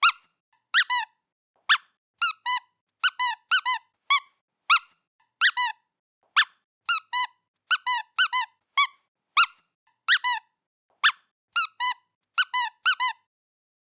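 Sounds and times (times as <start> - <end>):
squeaky toy squeaking: 0.0 - 13.3.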